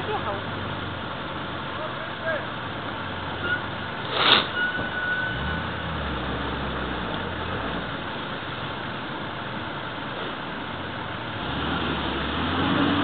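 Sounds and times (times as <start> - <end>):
off-road engines running: 0.0 - 13.0.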